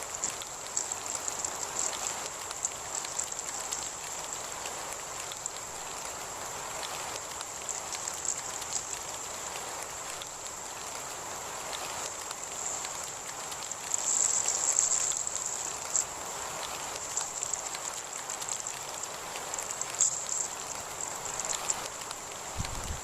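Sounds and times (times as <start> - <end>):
raindrops ticking on a surface: 0.0 - 23.0
steady rain falling: 0.0 - 23.0.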